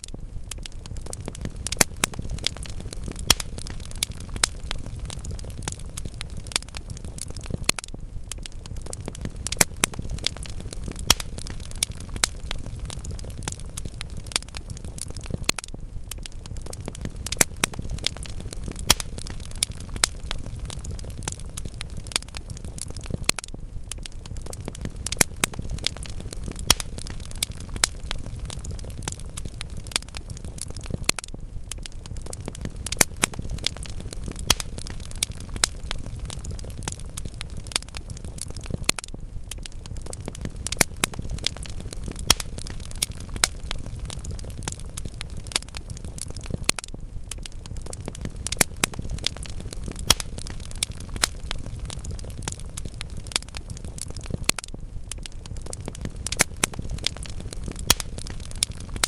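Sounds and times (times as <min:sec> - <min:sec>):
fire crackling and popping: 0:00.0 - 0:59.0
fire rumbling: 0:00.0 - 0:59.0.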